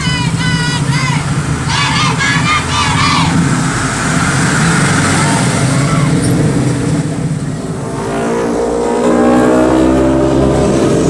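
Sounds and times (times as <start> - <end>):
traffic engines running: 0.0 - 11.0
engine revving up: 1.5 - 11.0.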